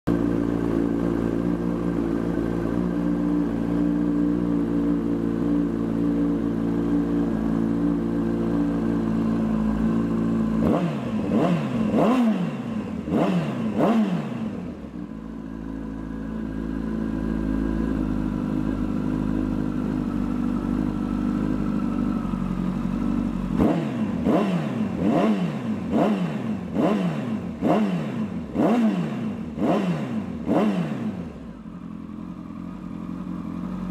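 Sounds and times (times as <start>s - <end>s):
engine idling and revving: 0.1s - 33.9s.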